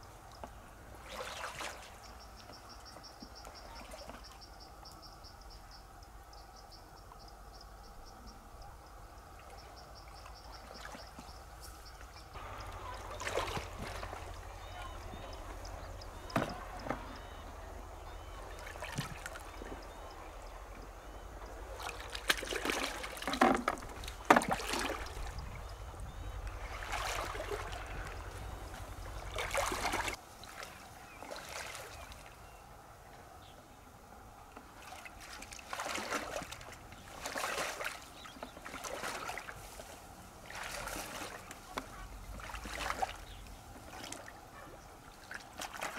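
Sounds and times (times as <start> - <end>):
river water splashing: 0.0 - 4.8, 7.8 - 33.4, 34.0 - 45.9.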